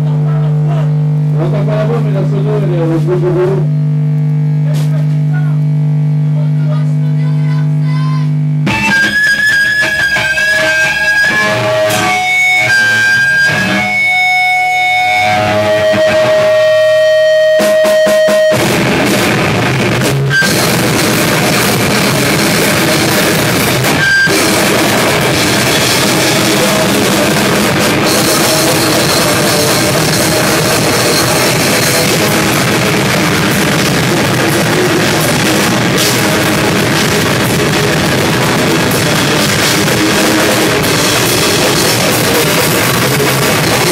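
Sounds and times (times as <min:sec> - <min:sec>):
guitar ringing held notes: 0:00.0 - 0:43.9
drum kit crashing: 0:08.6 - 0:43.9
rock band playing live: 0:08.6 - 0:43.9.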